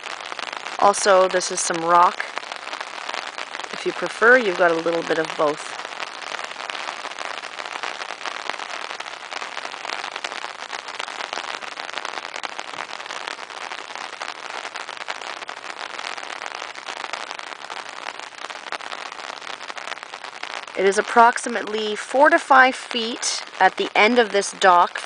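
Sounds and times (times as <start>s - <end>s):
steady rain patter: 0.0s - 25.0s.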